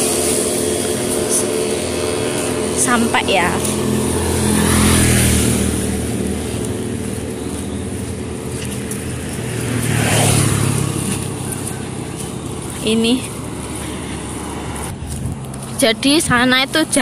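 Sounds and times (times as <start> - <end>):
motor vehicles passing: 0.0 - 17.0
steady traffic hiss: 0.0 - 17.0.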